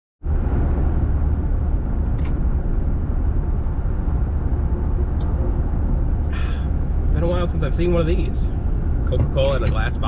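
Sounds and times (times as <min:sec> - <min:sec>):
road and engine rumble in cabin: 0:00.2 - 0:10.0.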